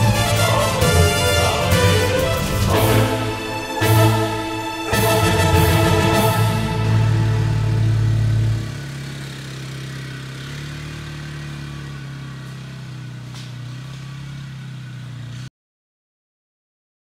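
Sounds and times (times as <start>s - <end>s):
atv engine running: 0.0s - 15.5s.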